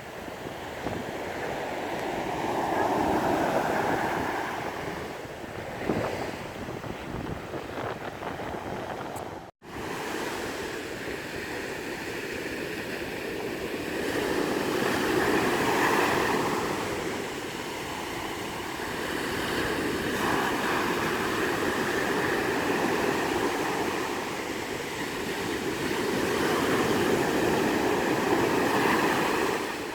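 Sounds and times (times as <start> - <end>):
surf washing onto sandy beach: 0.0 - 29.9.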